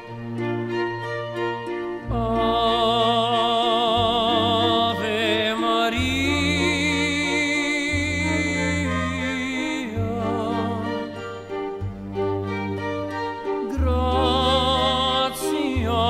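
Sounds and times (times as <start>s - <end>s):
strings: 0.0s - 16.0s.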